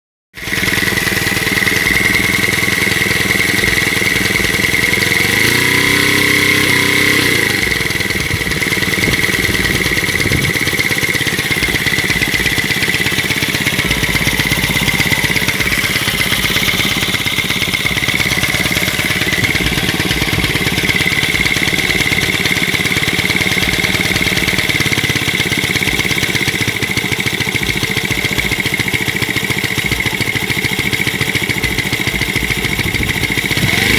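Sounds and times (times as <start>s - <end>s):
small engine running with whine: 0.4s - 33.9s.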